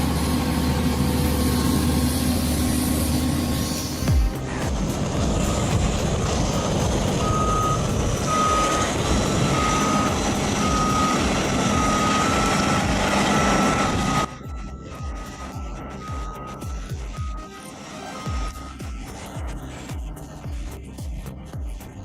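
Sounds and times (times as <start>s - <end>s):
reversing alarm beeping: 0.0s - 20.9s
heavy machine engine running: 0.0s - 22.0s.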